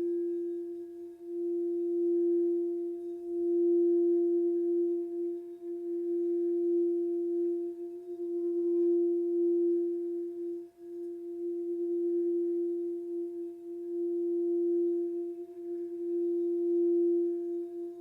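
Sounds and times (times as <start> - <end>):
singing bowl sustained tone: 0.0 - 18.0.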